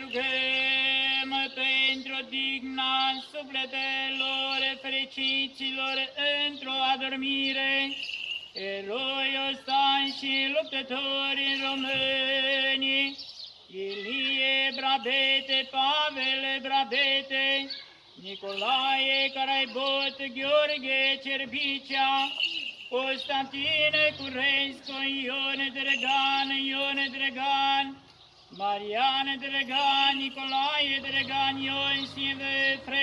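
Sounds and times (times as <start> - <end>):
man chanting prayers: 0.0 - 8.0, 8.6 - 28.0, 28.6 - 33.0.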